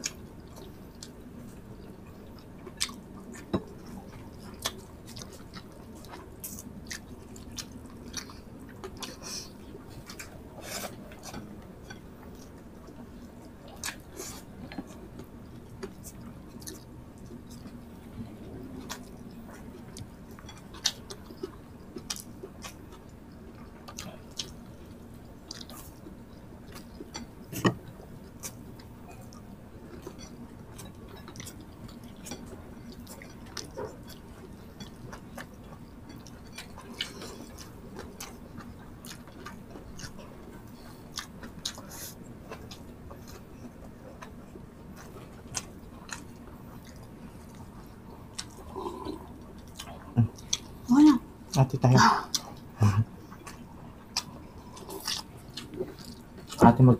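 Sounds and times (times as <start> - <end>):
people chewing: 0.0 - 56.9.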